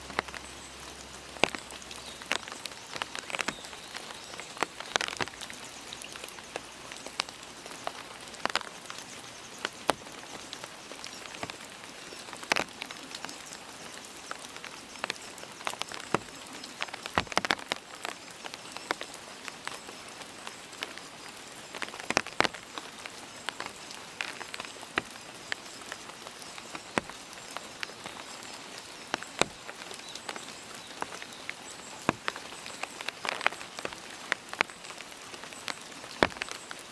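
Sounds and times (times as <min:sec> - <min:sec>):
heavy raindrops ticking: 0:00.0 - 0:36.9
steady rain: 0:00.0 - 0:36.9.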